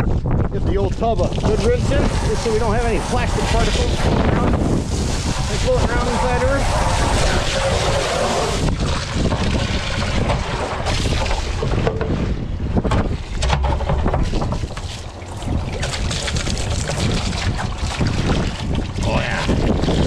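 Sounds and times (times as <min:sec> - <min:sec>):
wind buffeting microphone: 0:00.0 - 0:20.0
hose water splashing into plastic tub: 0:00.9 - 0:20.0.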